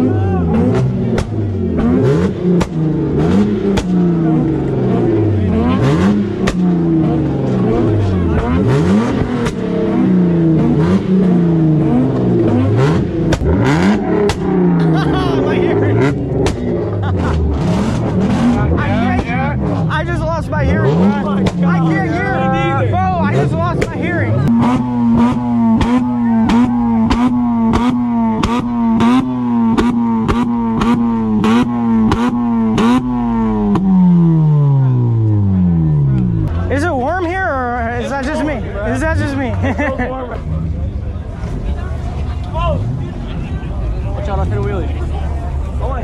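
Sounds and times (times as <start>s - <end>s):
car engine revving: 0.0s - 46.0s
exhaust cracks: 0.0s - 46.0s.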